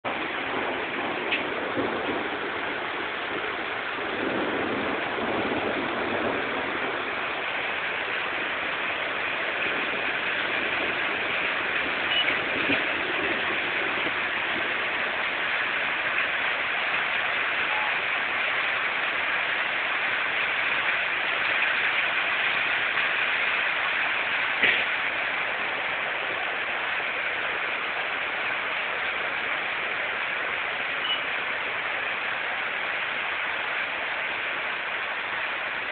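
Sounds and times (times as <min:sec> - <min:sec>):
floodwater rushing: 0:00.0 - 0:35.9.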